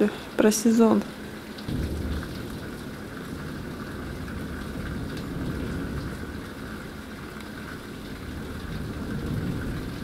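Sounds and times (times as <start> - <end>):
rain hissing: 0.0 - 10.0
rolling thunder: 1.6 - 10.0.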